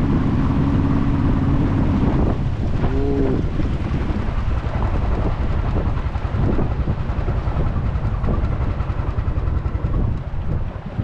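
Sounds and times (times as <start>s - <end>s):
boat engine rumble: 0.0s - 11.0s
wind buffeting microphone: 0.0s - 11.0s.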